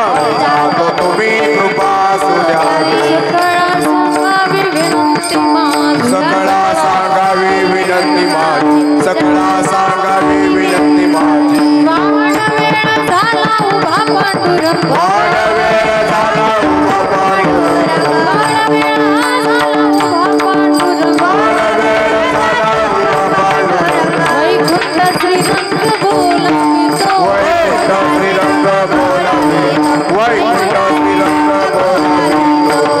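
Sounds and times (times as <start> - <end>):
person singing ornamented melody: 0.0 - 33.0
tabla: 0.0 - 33.0.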